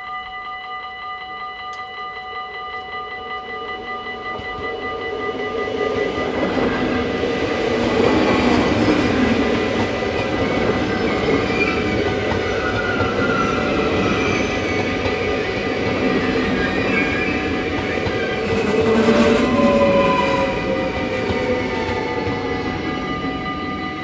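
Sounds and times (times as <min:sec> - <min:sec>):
level crossing warning bell: 0:00.0 - 0:24.0
train wheels on rails: 0:02.8 - 0:24.0.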